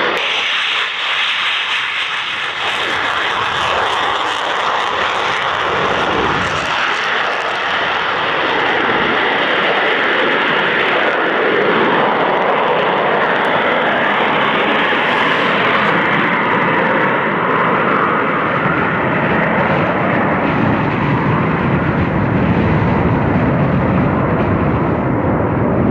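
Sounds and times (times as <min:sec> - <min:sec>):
jet engine running loud: 0:00.0 - 0:25.9.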